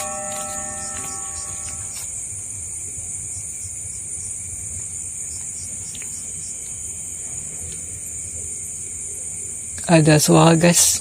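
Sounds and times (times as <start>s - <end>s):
low insect trill: 0.0s - 10.8s
insects droning: 0.0s - 11.0s.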